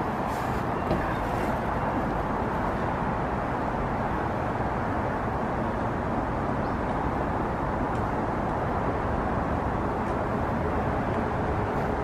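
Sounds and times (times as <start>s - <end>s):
distant city traffic drone: 0.0s - 12.0s.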